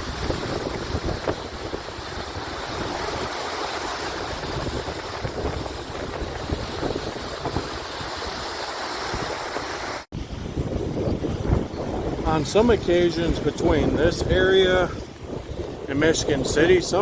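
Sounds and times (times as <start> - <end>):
lake waves washing: 0.0 - 17.0
wind buffeting microphone: 0.0 - 17.0.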